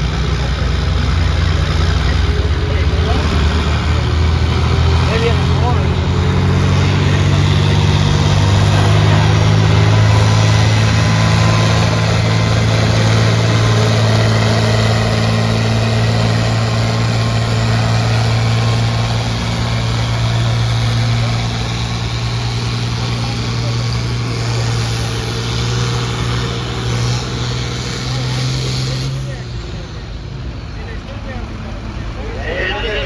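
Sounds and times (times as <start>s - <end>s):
tractor engine running hard: 0.0s - 33.0s.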